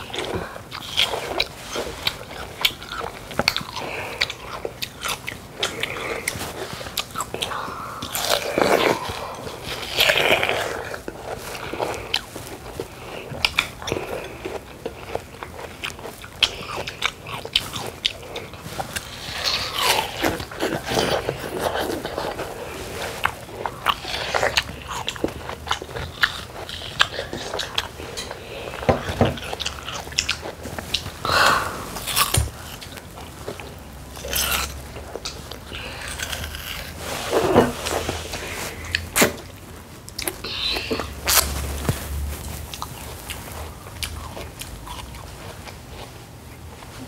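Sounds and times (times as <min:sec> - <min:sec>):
children chewing watermelon: 0:00.0 - 0:47.0.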